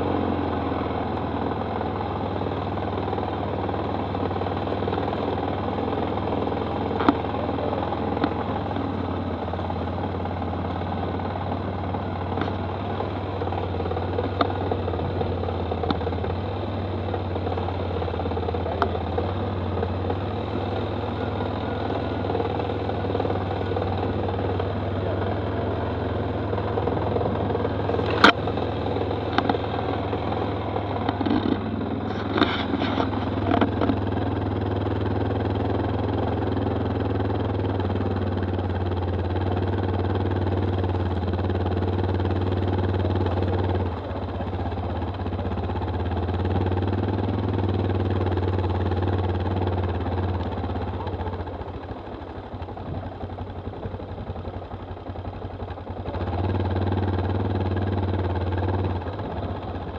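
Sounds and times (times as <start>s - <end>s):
quad bike engine droning: 0.0s - 59.9s.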